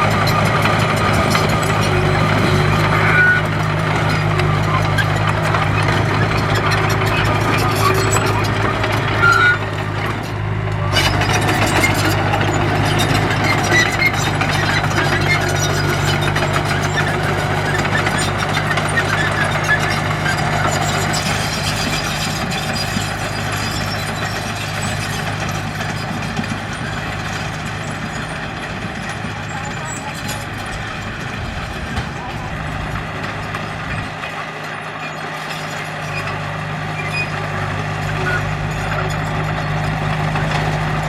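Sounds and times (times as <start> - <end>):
heavy diesel engine droning: 0.0 - 41.0.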